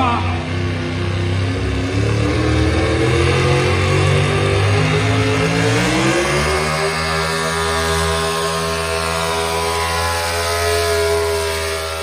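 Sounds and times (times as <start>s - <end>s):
truck engine at full throttle: 0.0s - 12.0s.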